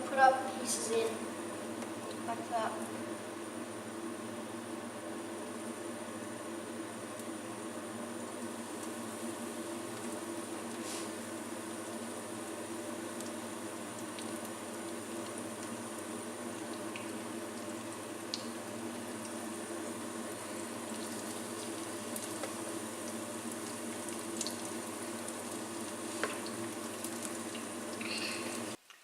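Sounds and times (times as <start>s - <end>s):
food sizzling in a pan: 5.2s - 28.8s.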